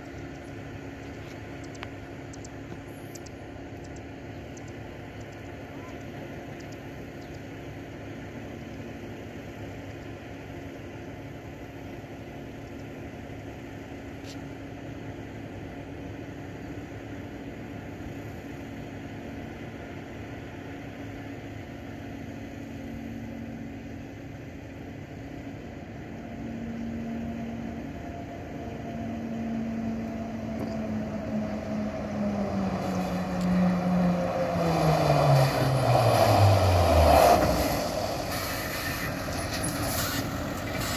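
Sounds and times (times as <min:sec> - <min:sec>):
fire truck diesel engine: 0:00.0 - 0:40.9.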